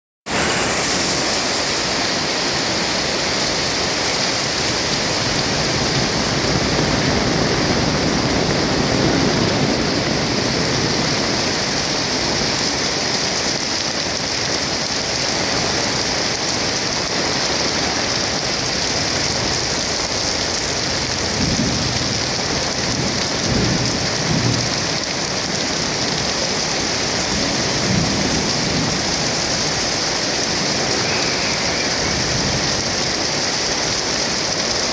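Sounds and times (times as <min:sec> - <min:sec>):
heavy rain: 0:00.2 - 0:34.9.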